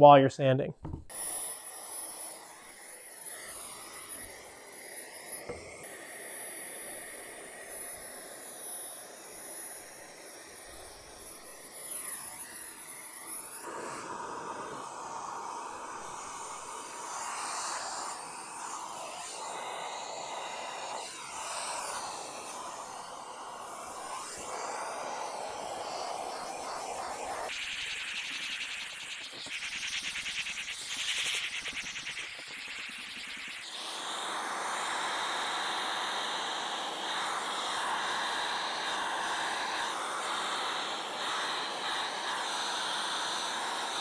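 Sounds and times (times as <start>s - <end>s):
vacuum drawing air through sander: 0.8s - 44.0s.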